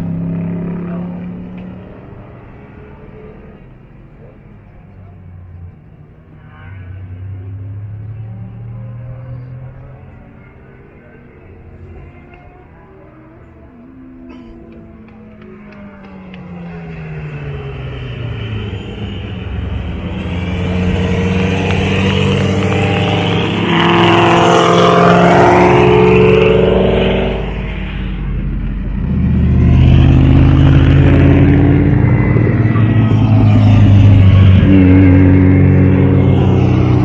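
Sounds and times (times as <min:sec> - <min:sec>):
race car engines at full throttle: 0:00.0 - 0:37.0.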